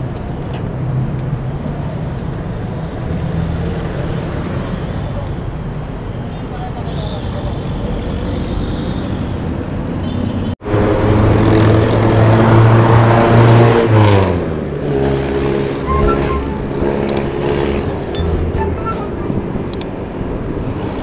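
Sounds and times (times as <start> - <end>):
roadside traffic: 0.0 - 21.0.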